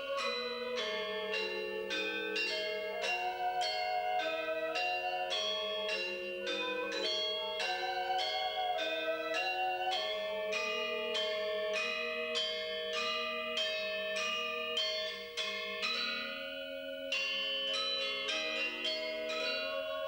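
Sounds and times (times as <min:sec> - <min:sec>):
bamboo flute long notes: 0:00.0 - 0:14.9, 0:18.3 - 0:20.0
metallophones ringing: 0:00.0 - 0:20.0.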